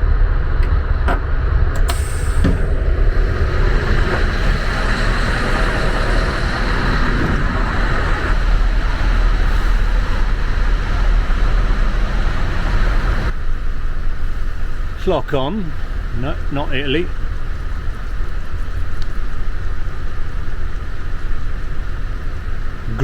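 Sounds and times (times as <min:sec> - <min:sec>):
constant noisy hiss: 0:00.0 - 0:23.0
loud engine rumble: 0:00.0 - 0:23.0.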